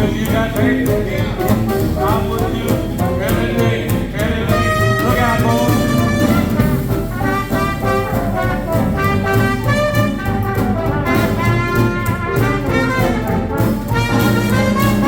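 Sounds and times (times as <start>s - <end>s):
swing jazz band playing: 0.0s - 15.0s
walking bass: 0.0s - 15.0s
trumpet melody: 1.2s - 15.0s.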